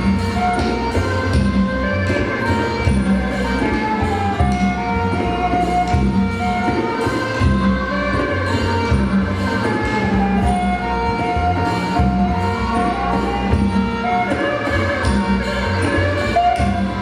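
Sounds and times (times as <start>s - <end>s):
drums and small percussion: 0.0s - 17.0s
fiddle-like melody: 0.0s - 17.0s.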